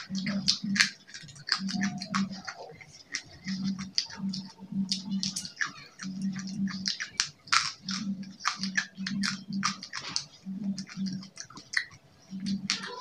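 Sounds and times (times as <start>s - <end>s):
crunchy chewing: 0.0s - 13.0s
low pulsing hum: 0.0s - 13.0s.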